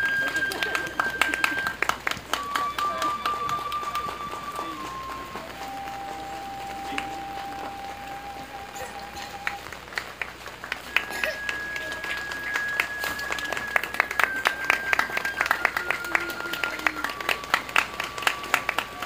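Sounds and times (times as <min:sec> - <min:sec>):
thin steady high tone: 0:00.0 - 0:09.8, 0:10.9 - 0:19.0
audience applause: 0:00.0 - 0:19.0.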